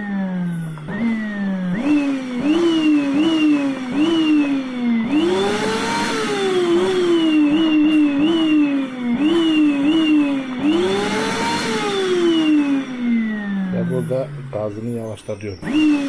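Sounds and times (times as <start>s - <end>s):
vacuum cleaner motor revving: 0.0s - 16.0s.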